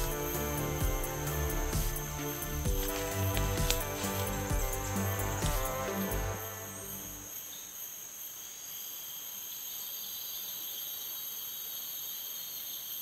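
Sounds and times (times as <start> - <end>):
background hiss: 0.0 - 13.0
insect chorus: 0.0 - 13.0.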